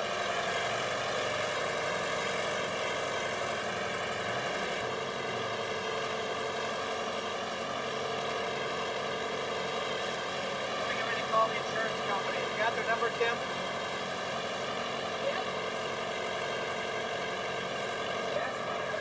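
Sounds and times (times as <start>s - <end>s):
engine droning steadily: 0.0s - 19.0s.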